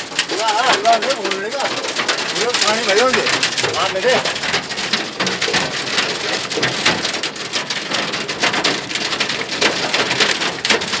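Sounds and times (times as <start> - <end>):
heavy rain with hail: 0.0 - 11.0.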